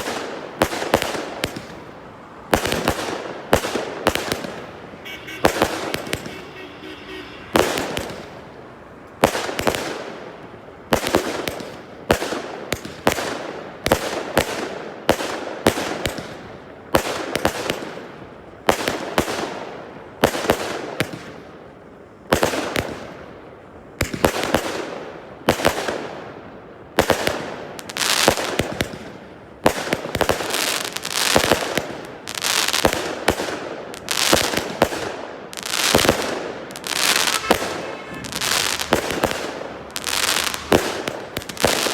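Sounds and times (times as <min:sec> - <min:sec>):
fireworks bursting with crackle: 0:00.0 - 0:21.5, 0:24.0 - 0:26.2, 0:26.9 - 0:41.9.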